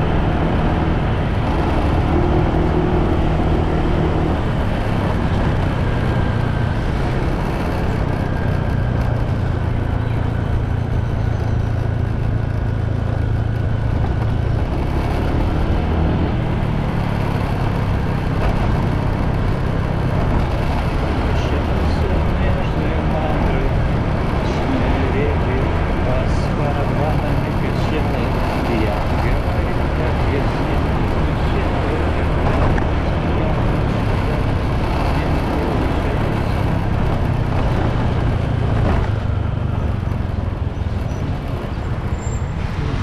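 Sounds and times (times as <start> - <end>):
motorbike engine running: 0.0 - 43.0
wind and road noise: 0.0 - 43.0.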